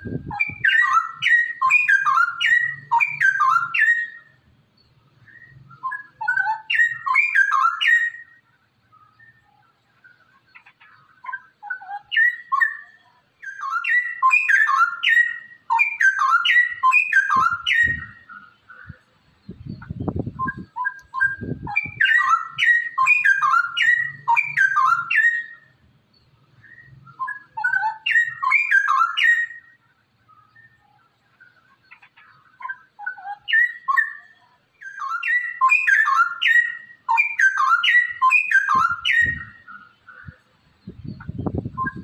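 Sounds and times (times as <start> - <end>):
bird whistled warbling song: 0.0 - 42.0.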